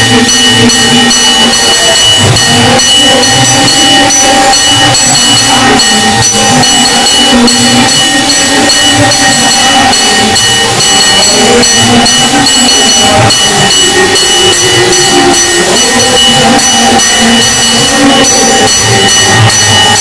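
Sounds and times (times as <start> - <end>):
temple bells clanging: 0.0 - 20.0.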